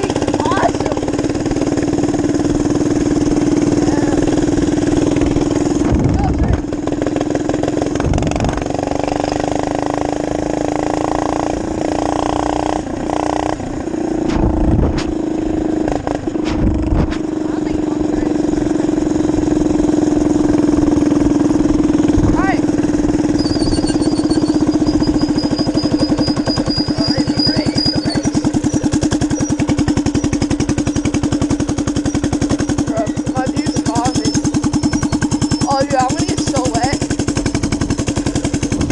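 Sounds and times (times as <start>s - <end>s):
minibike engine running: 0.0s - 38.9s.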